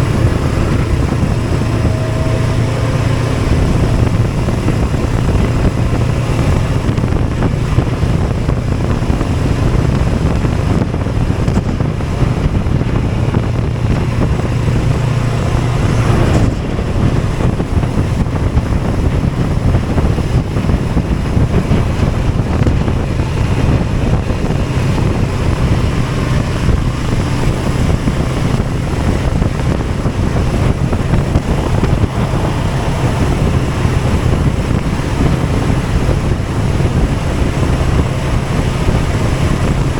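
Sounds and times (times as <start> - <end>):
engine drone: 0.0 - 39.9
wind noise on microphone: 0.0 - 39.9.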